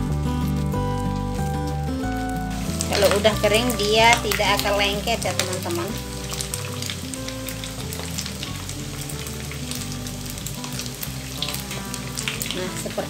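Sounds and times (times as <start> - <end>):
food deep-frying in oil: 0.0 - 13.0
spatula moving in oil: 2.1 - 13.0.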